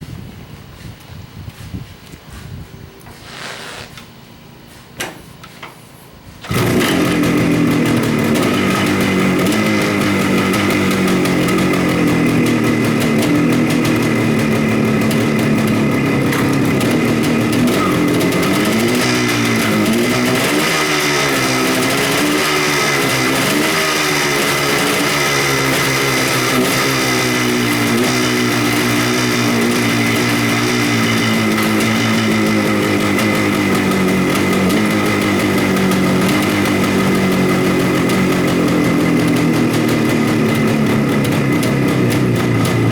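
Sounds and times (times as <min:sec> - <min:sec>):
two-stroke motorcycle engine revving: 0:06.4 - 0:42.9.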